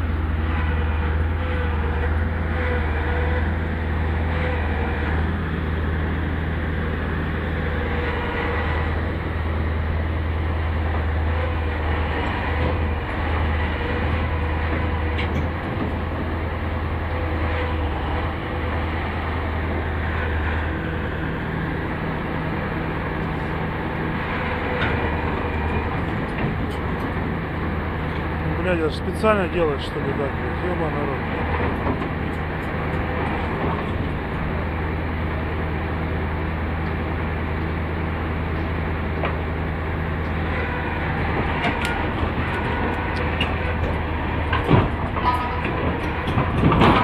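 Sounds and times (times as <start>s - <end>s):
excavator diesel engine droning: 0.0s - 47.0s.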